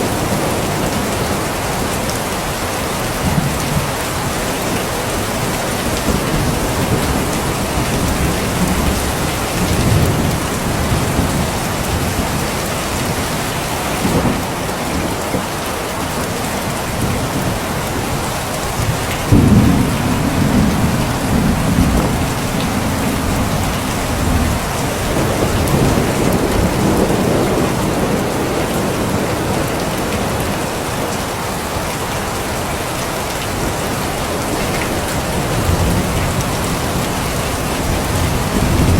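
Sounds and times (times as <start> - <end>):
thunder clap and rumble: 0.0 - 15.5, 16.7 - 31.3, 33.3 - 38.9
heavy rain: 0.0 - 38.9.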